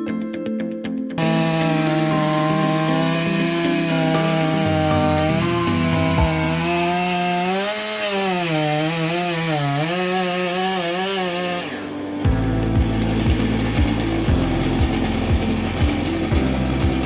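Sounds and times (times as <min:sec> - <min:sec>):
chainsaw cutting wood: 0:01.2 - 0:17.0.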